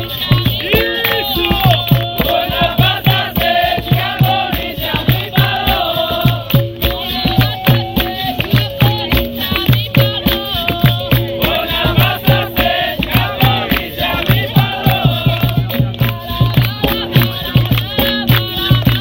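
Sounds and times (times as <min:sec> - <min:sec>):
group singing: 0:00.0 - 0:19.0
hand drums: 0:00.0 - 0:19.0.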